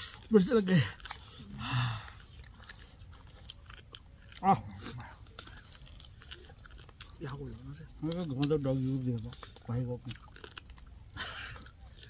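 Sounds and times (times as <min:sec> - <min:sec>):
people chewing crunchy food: 0:00.0 - 0:12.0.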